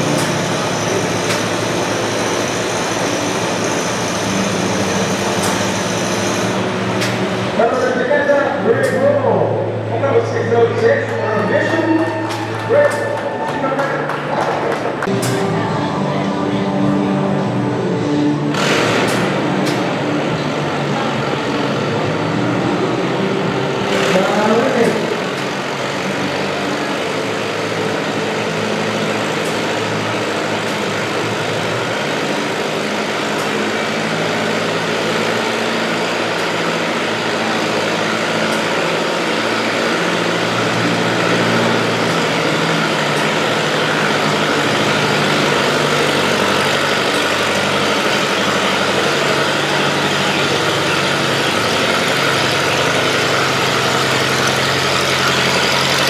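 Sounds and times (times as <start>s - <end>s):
tractor engines idling: 0.0s - 56.0s.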